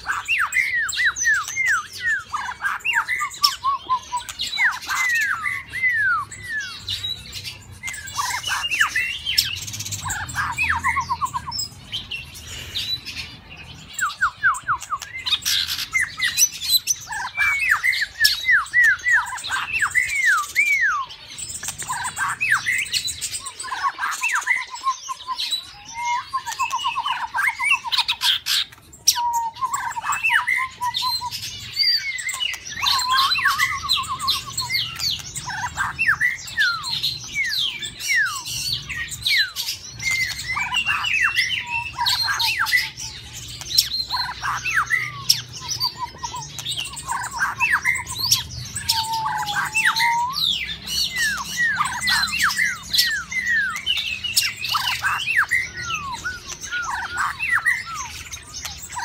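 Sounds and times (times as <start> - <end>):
bird whistling song: 0.0 - 59.0.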